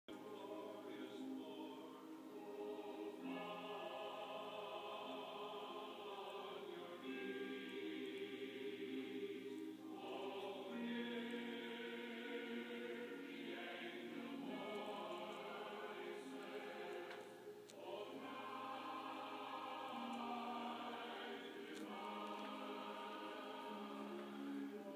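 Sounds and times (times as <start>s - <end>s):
choir singing held chords: 0.1s - 24.9s.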